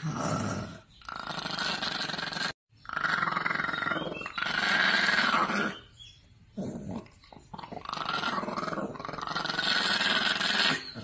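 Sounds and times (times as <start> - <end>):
puppy growling: 0.0 - 5.9, 6.6 - 11.0.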